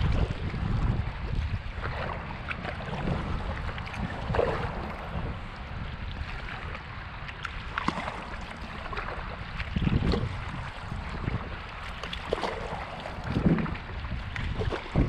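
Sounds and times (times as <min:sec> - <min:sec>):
water splashes and drips: 0:00.0 - 0:15.0
wind rumble on microphone: 0:00.0 - 0:15.0.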